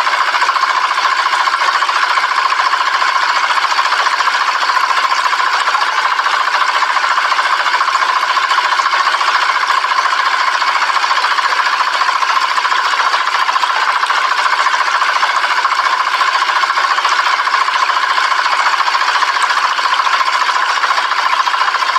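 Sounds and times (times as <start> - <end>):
small motor rattling: 0.0 - 21.9.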